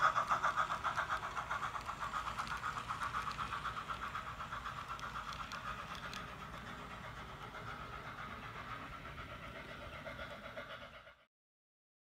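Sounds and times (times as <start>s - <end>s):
model cars clicking on track: 0.0s - 11.1s
model steam locomotive chuffing: 0.0s - 11.3s.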